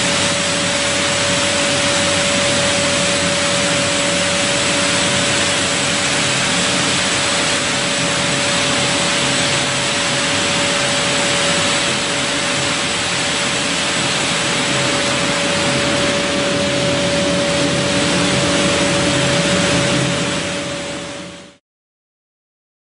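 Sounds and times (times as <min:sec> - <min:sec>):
sanding machine rushing whine: 0:00.0 - 0:21.6.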